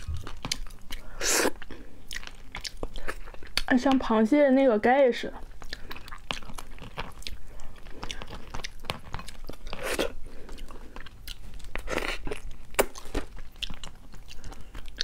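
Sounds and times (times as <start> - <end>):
mouth chewing: 0.0 - 4.0, 5.4 - 15.0.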